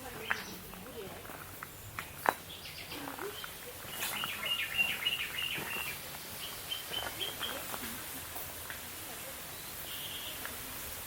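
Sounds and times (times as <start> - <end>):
small birds chirping: 0.0 - 8.1, 9.0 - 11.0.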